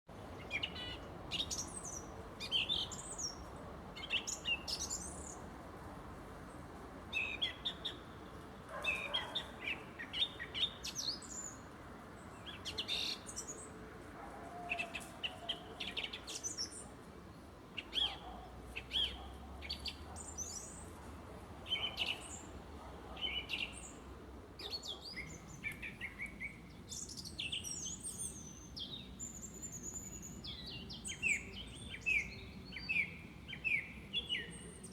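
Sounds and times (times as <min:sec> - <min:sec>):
songbirds singing and chirping: 0:00.1 - 0:34.9.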